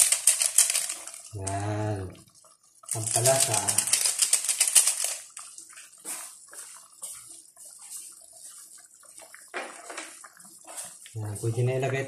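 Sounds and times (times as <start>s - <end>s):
broth boiling with small pops: 0.0s - 12.0s.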